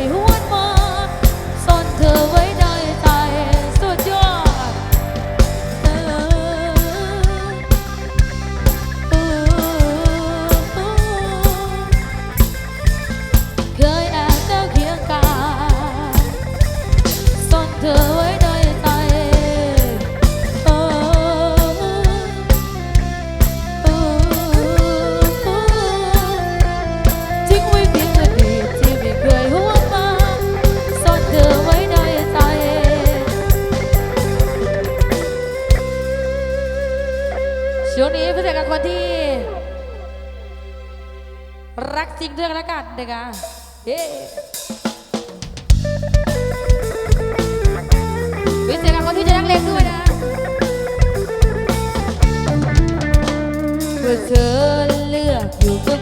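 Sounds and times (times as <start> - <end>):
drum kit beat: 0.0 - 37.5, 43.3 - 56.0
melodic lead line: 0.0 - 42.9, 45.7 - 56.0
live band playing: 0.0 - 56.0.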